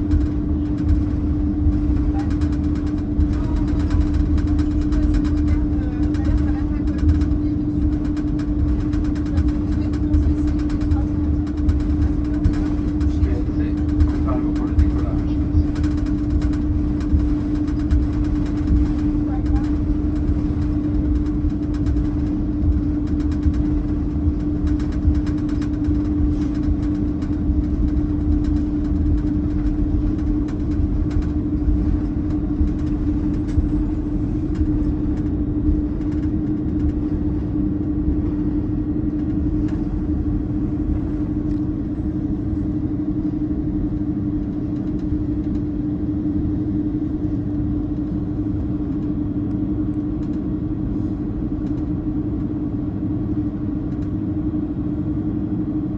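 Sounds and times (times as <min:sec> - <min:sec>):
light cabin rattles: 0:00.0 - 0:52.6
jet engines rumbling in cabin: 0:00.0 - 0:55.9.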